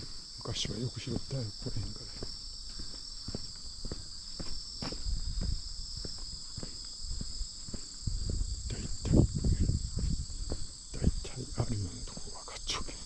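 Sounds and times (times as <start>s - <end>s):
crickets chirping: 0.0s - 13.0s
footsteps: 1.2s - 13.0s.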